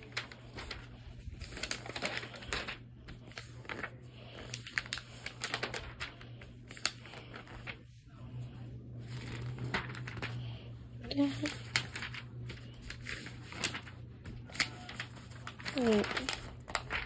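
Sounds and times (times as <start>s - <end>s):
magazine pages rustling: 0.0s - 17.0s.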